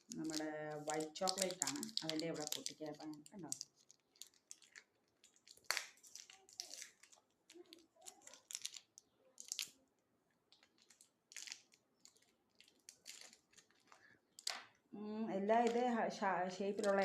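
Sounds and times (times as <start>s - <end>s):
plastic wrapper crinkling: 0.0s - 14.9s, 16.7s - 17.0s.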